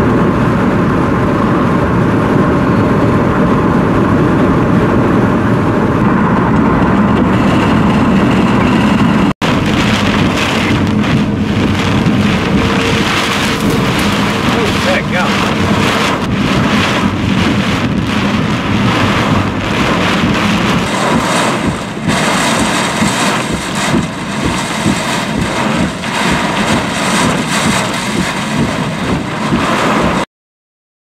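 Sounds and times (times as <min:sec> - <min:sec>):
gusting wind: 0:00.0 - 0:30.2
heavy rain pounding a vehicle: 0:00.0 - 0:30.3.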